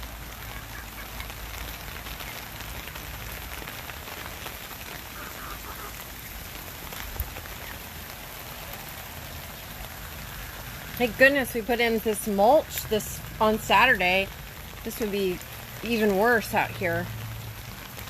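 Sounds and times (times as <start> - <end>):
rain falling on water: 0.0 - 18.0.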